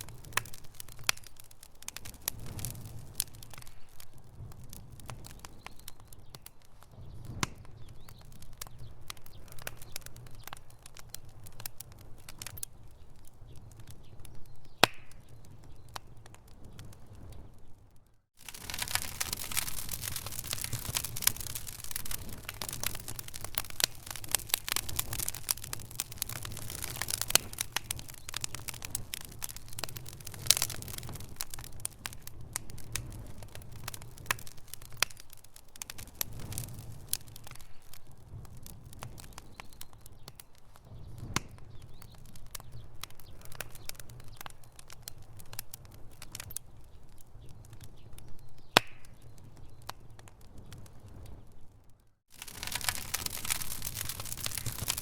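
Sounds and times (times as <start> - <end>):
campfire crackling and popping: 0.0 - 55.0.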